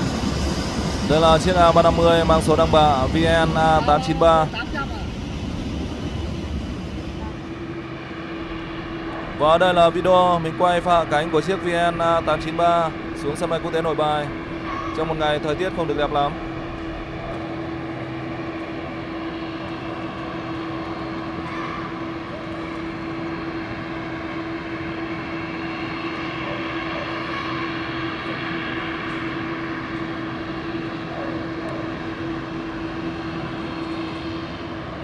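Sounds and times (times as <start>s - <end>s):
jet engine drone: 0.0s - 35.0s.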